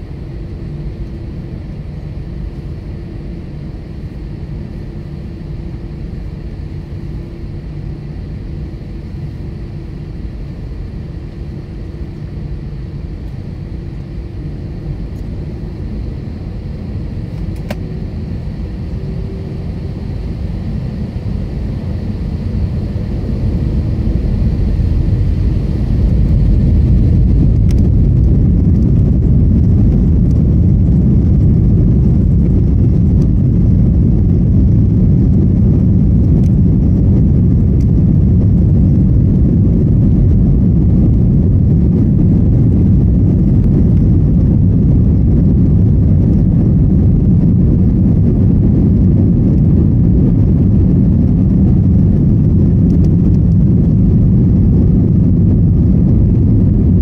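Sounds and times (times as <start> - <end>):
airliner engines rumbling: 0.0 - 57.0.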